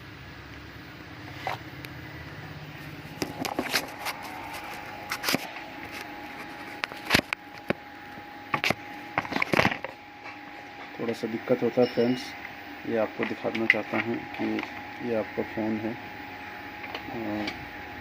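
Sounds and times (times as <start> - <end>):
faint steady whine: 0.0 - 18.0.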